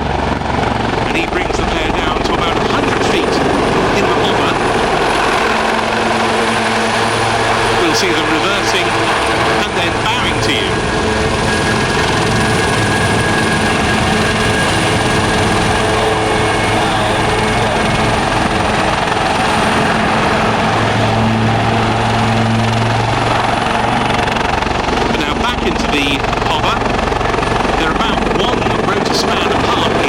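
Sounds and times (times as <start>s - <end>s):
deep rotor hum: 0.0s - 30.0s
helicopters hovering: 0.0s - 30.0s.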